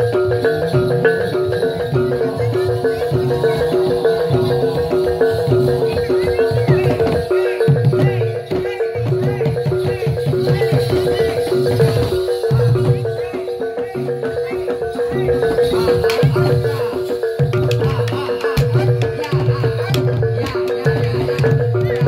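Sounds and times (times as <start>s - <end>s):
hand drum strokes: 0.0s - 22.0s
metallophones playing: 0.0s - 22.0s.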